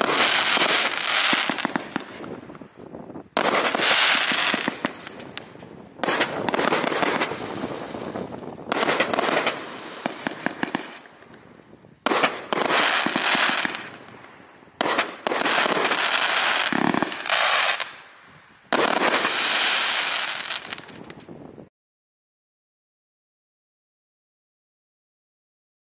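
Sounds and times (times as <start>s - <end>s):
crackling hiss of fireworks: 0.0s - 21.7s
firework volleys: 0.0s - 21.7s.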